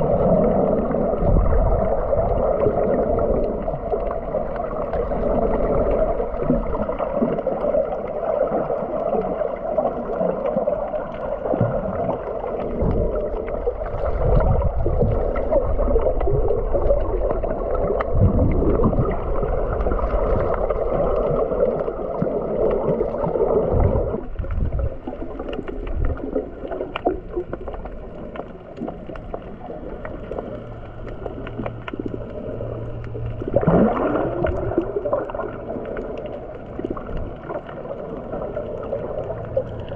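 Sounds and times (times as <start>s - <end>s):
steady underwater hum: 0.0s - 39.9s
underwater water gurgling: 0.0s - 39.9s.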